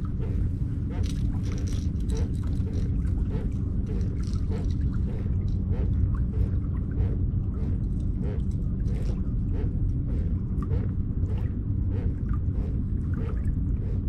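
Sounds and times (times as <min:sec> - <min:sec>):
kayak rumbling through water: 0:00.0 - 0:14.0.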